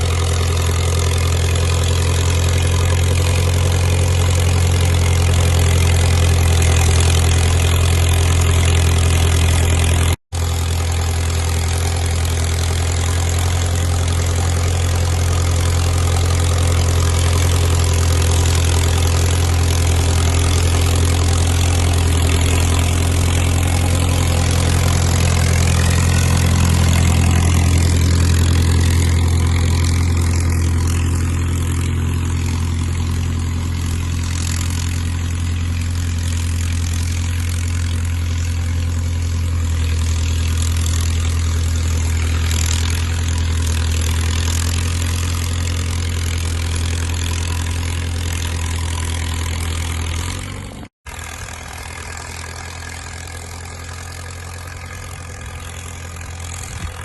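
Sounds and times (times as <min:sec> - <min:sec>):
dozer diesel engine droning: 0:00.0 - 0:57.0.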